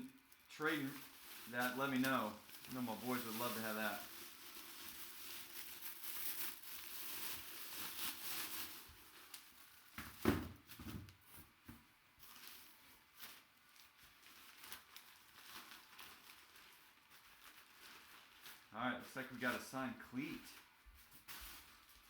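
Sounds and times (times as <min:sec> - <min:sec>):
packaging crinkling and rustling: 0:00.0 - 0:22.0.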